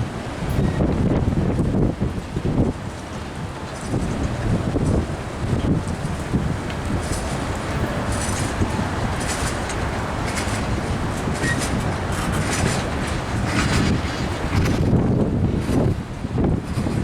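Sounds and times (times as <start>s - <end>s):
freight train cars rolling past: 0.0s - 17.0s
wheels clicking on rails: 0.0s - 17.0s.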